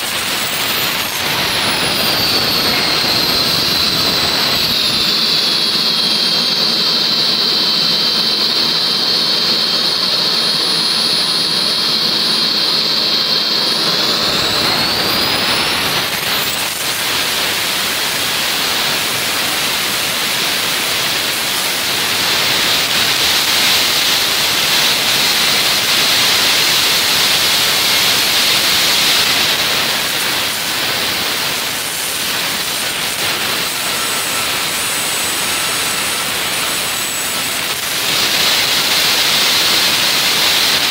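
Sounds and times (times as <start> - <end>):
micro turbojet whine and roar: 0.0 - 40.9.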